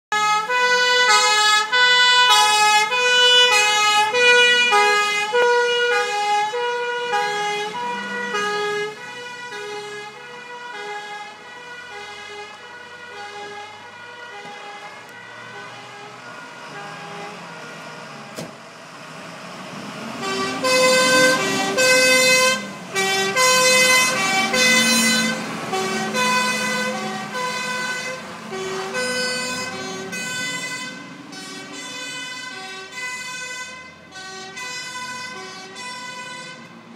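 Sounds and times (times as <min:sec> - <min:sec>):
diesel truck engines: 0:00.1 - 0:36.9
two-tone sirens: 0:00.1 - 0:36.9.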